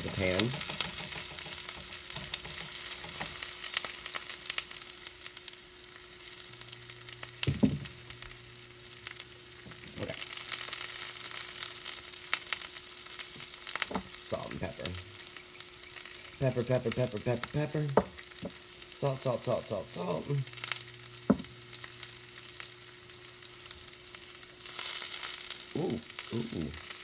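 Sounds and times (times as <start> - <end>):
slices sizzling in hot oil: 0.0 - 27.0.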